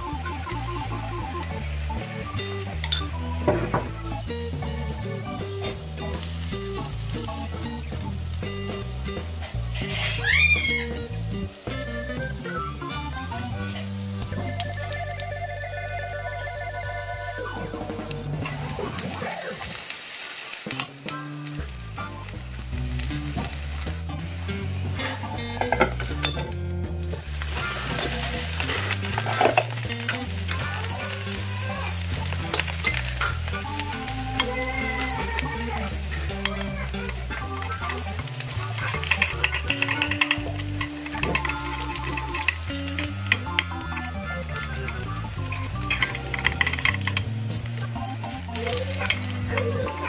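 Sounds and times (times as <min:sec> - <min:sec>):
background music: 0:00.0 - 0:19.9, 0:20.7 - 0:50.0
batter sizzling in pan: 0:00.0 - 0:50.0.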